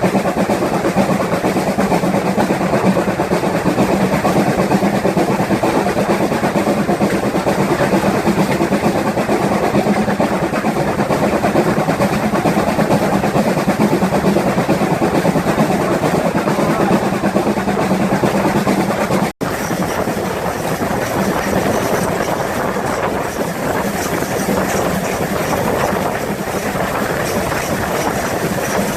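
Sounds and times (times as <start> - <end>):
steam locomotive engine: 0.0 - 28.9
train running on rails: 0.0 - 28.9.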